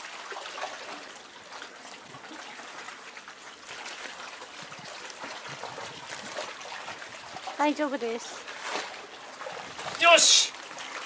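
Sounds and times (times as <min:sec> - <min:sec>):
seawater washing among rocks: 0:00.0 - 0:11.0.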